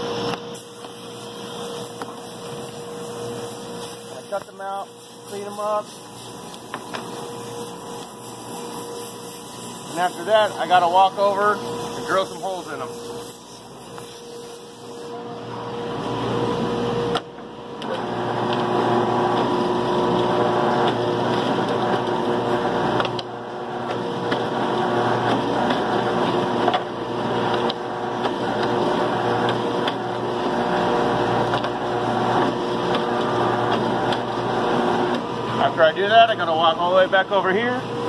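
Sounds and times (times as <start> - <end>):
shop machinery noise: 0.0 - 38.0.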